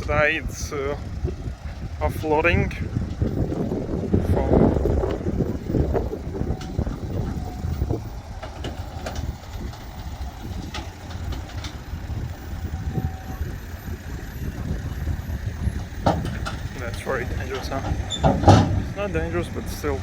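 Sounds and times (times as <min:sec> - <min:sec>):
diesel machinery low rumble: 0:00.0 - 0:20.0.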